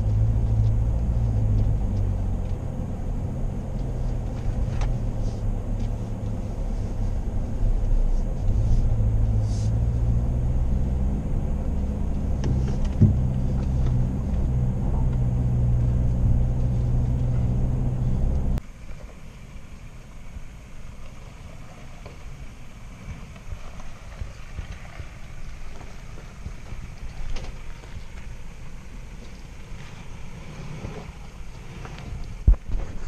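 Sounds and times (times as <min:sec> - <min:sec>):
car engine droning in low gear: 0:00.0 - 0:33.0
distant off-road vehicle on stony track: 0:00.0 - 0:33.0.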